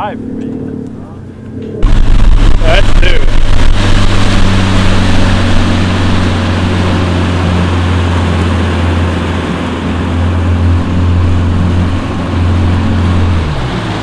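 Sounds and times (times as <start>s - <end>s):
outboard motor droning: 0.0s - 14.0s
wind and water rushing: 1.8s - 14.0s.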